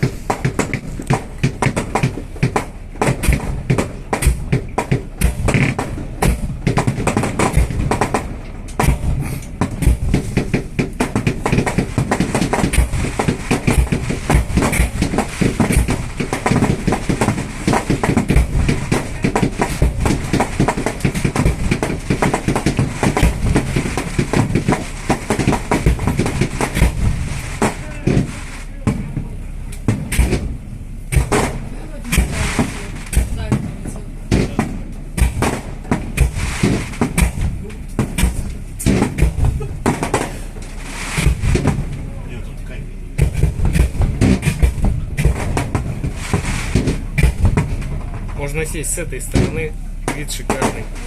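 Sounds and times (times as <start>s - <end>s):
fireworks bursts and crackling: 0.0s - 51.0s.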